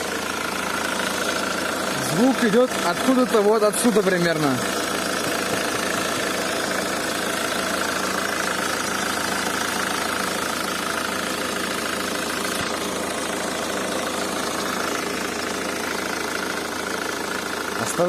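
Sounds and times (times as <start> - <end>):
diesel engine idling with knocking: 0.0 - 18.0.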